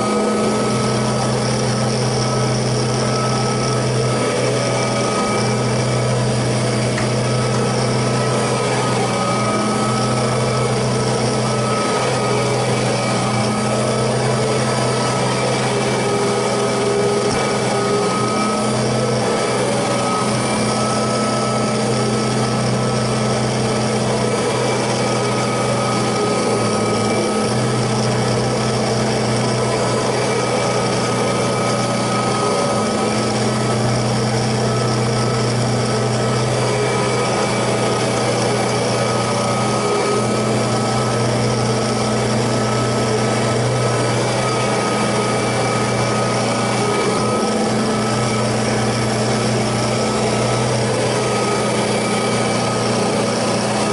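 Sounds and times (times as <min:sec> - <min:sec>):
vacuum cleaner motor running: 0:00.0 - 0:53.9.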